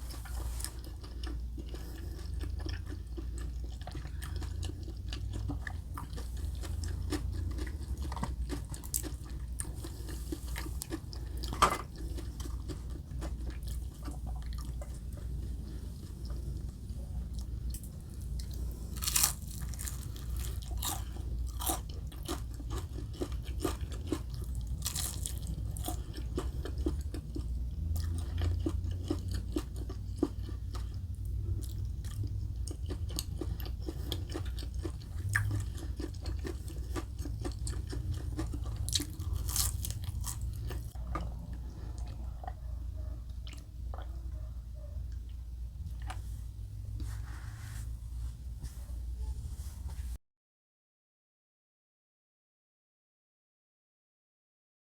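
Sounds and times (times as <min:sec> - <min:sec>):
crunchy chewing: 0:00.0 - 0:47.2.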